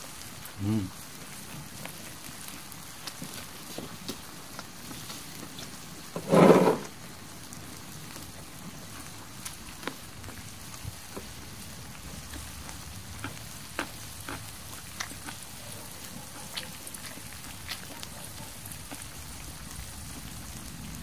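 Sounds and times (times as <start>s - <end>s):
meat sizzling on griddle: 0.0s - 21.0s.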